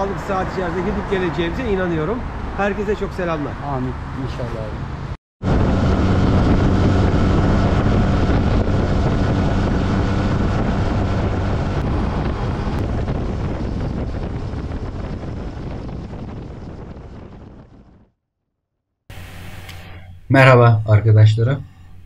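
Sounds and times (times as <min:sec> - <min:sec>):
wind noise on microphone: 0:00.0 - 0:18.1.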